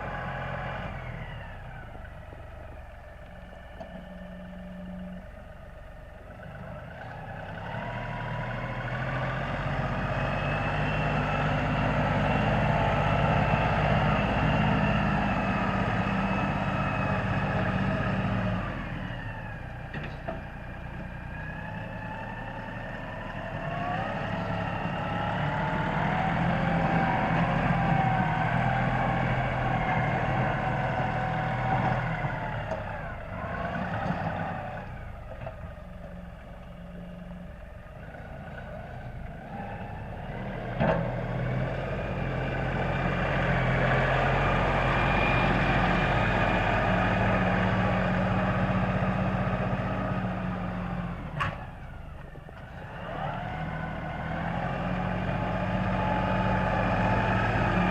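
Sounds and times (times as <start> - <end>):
tractor engine running under load: 0.0 - 57.9.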